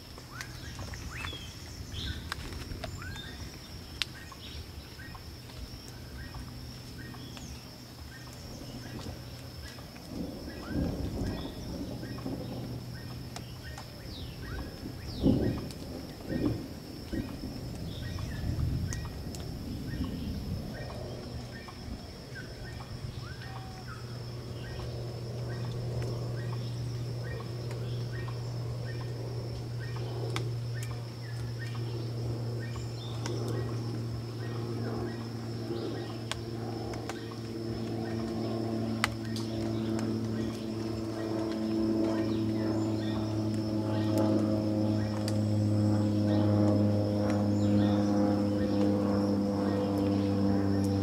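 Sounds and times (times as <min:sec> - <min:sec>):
birds chirping: 0:00.0 - 0:51.0
low steady hum: 0:00.0 - 0:51.0.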